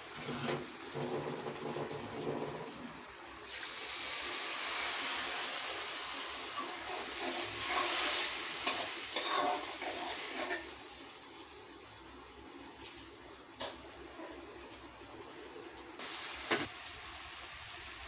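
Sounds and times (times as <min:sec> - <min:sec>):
water sizzling in hot oil: 0:00.0 - 0:18.0.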